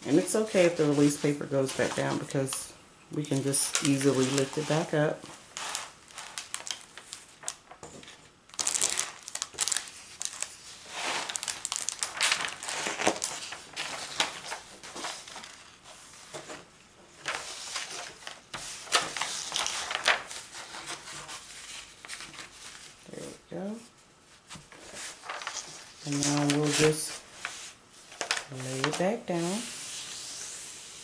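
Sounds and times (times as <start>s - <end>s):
plastic paper crinkling: 0.2s - 16.5s, 17.2s - 23.1s, 24.7s - 30.2s.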